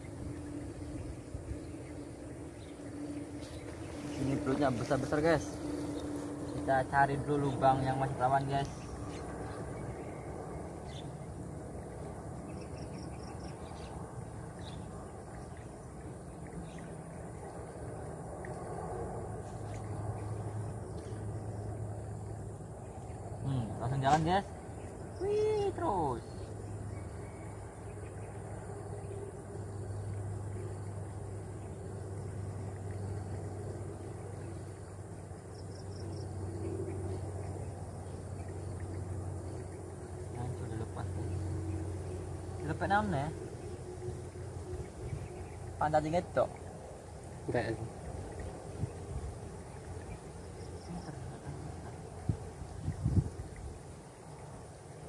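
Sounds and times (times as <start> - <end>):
low mechanical hum: 0.0 - 55.0
steady low rumble: 0.0 - 55.0.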